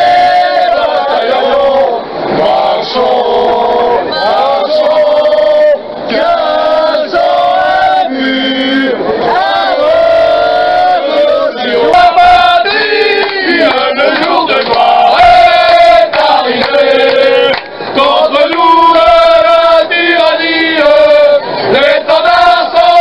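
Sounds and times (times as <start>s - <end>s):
men singing together: 0.0s - 23.0s.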